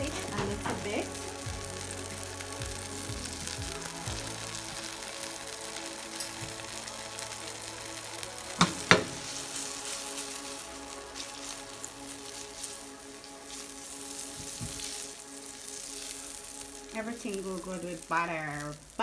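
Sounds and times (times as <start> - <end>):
butter sizzling in a pot: 0.0 - 19.0.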